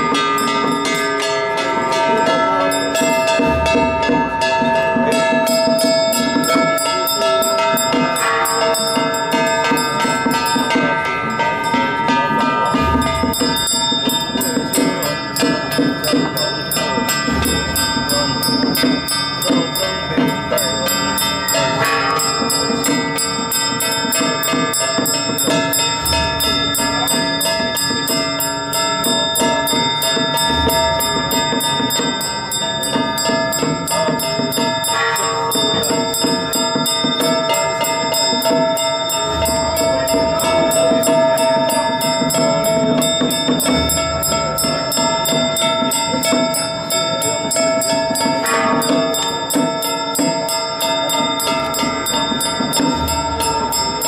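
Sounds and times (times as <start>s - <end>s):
bells ringing: 0.0s - 54.0s
music: 0.0s - 54.0s.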